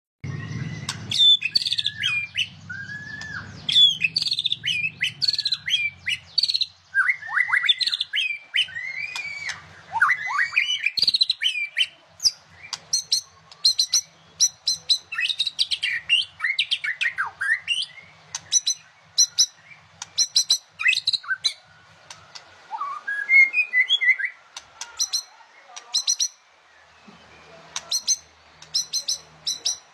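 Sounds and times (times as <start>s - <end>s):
bird singing whistled phrases: 0.2s - 29.9s.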